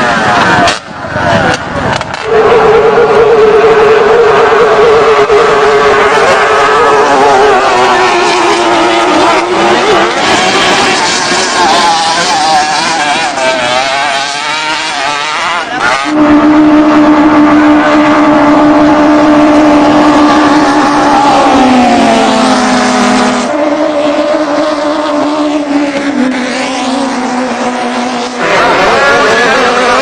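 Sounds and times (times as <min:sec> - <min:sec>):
racing boat engines at full throttle: 0:00.0 - 0:30.0.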